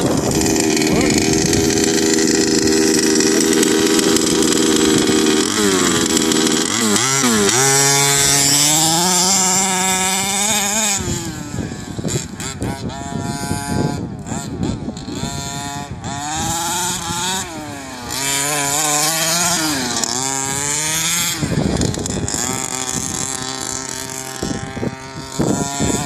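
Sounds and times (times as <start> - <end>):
small two-stroke engine revving: 0.0 - 26.0.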